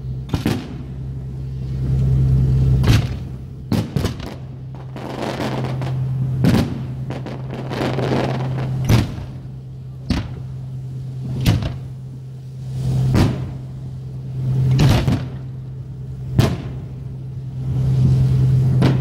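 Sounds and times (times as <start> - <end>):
fireworks booming: 0.0 - 19.0
low steady hum: 0.0 - 19.0.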